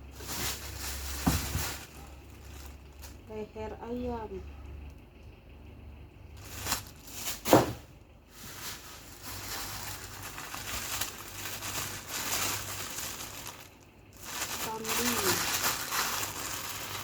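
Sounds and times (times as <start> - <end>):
plastic bags crinkling: 0.0 - 3.4, 6.4 - 17.0.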